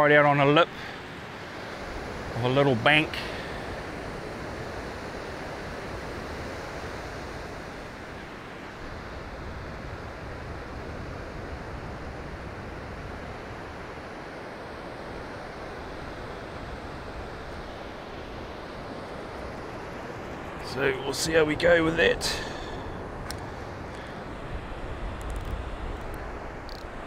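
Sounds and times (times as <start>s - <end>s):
surf breaking on a beach: 0.0s - 27.0s.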